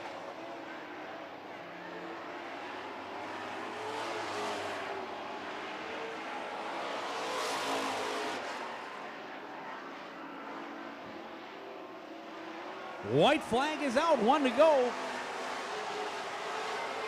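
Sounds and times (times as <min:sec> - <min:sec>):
race truck engines at full throttle: 0:00.0 - 0:17.0.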